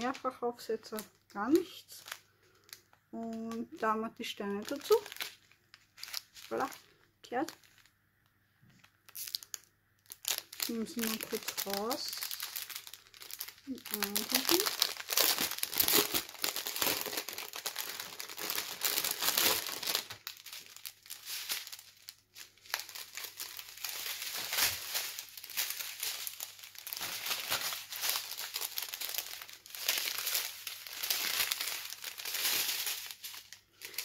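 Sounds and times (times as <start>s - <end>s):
plastic packaging crinkling: 0.0s - 8.0s, 8.6s - 34.0s.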